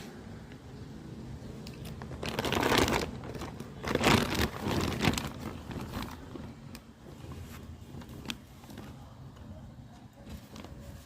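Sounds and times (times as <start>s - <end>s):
plant material rustling and crunching: 0.0s - 11.0s.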